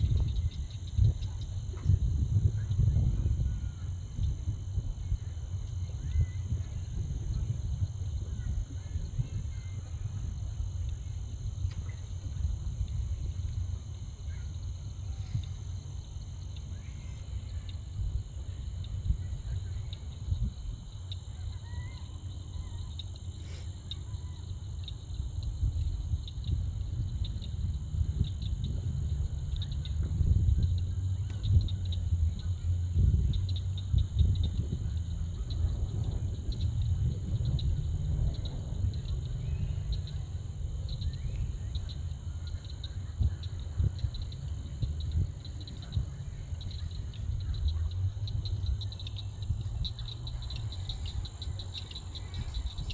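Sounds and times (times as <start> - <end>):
low rumble: 0.0 - 21.0, 25.2 - 52.9
high-pitched insect chorus: 0.0 - 52.9.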